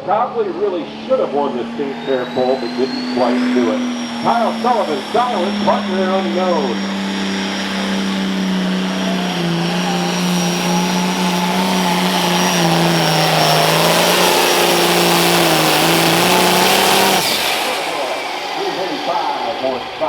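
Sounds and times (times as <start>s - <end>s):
diesel tractor engine under load: 0.0s - 20.0s
steady high whine: 0.0s - 20.0s.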